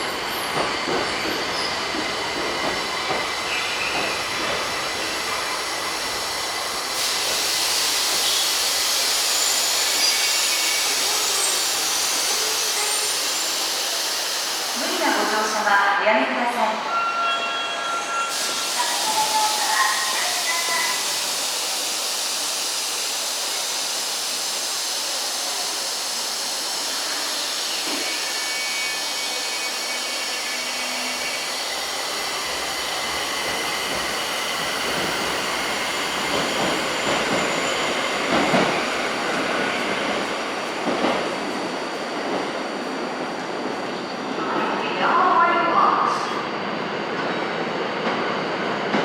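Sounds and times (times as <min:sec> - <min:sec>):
subway train running noise: 0:00.0 - 0:49.0.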